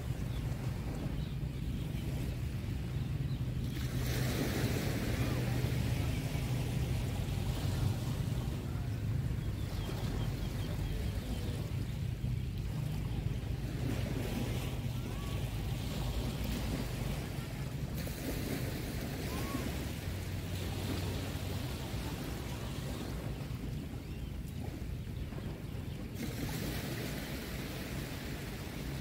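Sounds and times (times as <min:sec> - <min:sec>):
low surf rumble: 0:00.0 - 0:29.0
small waves washing on beach: 0:00.0 - 0:29.0.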